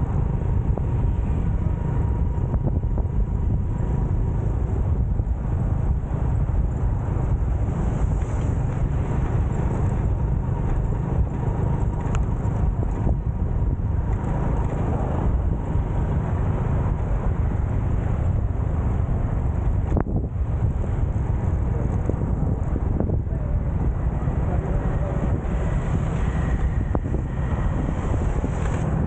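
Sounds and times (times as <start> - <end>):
wind and road noise on microphone: 0.0 - 29.0.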